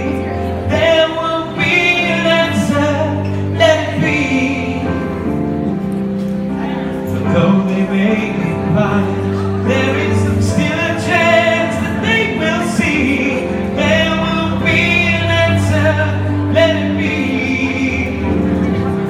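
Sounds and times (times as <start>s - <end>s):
digital piano chords: 0.0s - 19.0s
man singing into microphone: 0.0s - 19.0s.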